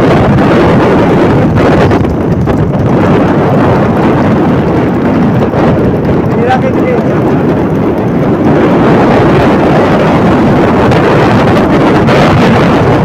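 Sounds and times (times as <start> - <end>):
motorcycle ride rumble: 0.0 - 13.0
wind buffeting microphone: 0.0 - 13.0.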